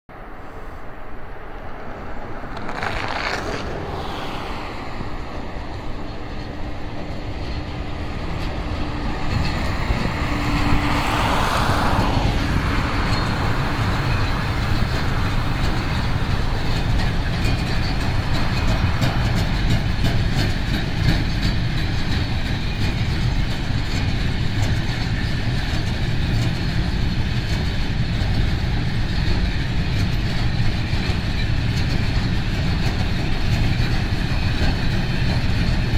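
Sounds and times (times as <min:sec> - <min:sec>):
locomotive passing: 0:00.1 - 0:35.9
freight wagons rumbling and clattering: 0:02.4 - 0:35.9.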